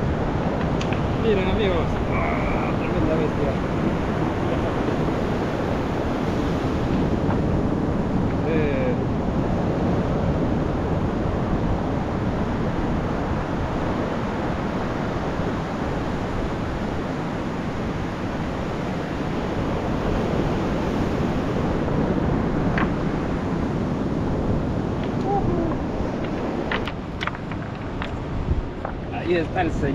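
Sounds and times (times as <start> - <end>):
sea surf rushing: 0.0 - 29.9
wind buffeting microphone: 0.0 - 29.9.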